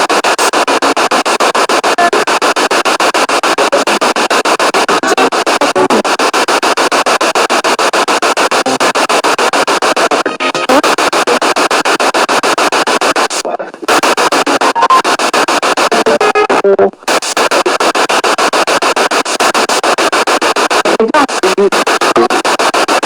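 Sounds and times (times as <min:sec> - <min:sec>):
fragments of broadcast sound: 0:00.0 - 0:23.0
pulsing radio static: 0:00.0 - 0:23.0.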